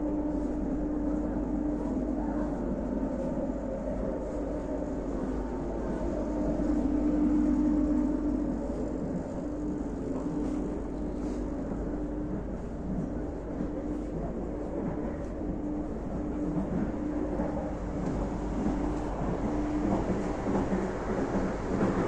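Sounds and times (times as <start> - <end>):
train hum: 0.0 - 22.0
train rumbling: 0.0 - 22.0.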